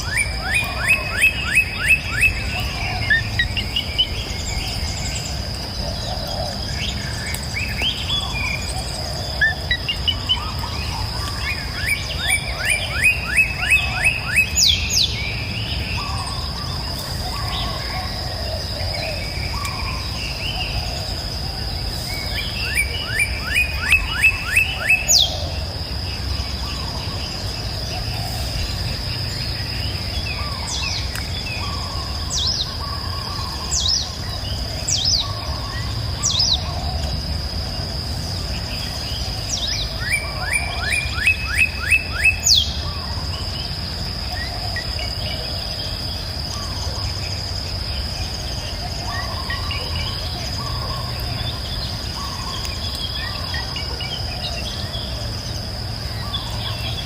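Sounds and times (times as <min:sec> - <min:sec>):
birds singing: 0:00.0 - 0:57.0
high insect drone: 0:00.0 - 0:57.0.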